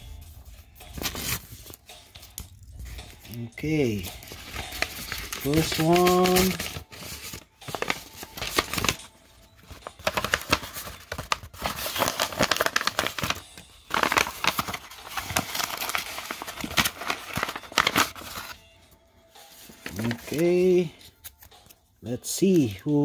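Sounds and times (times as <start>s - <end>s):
card packaging crinkling: 0.4s - 18.6s, 19.4s - 21.8s.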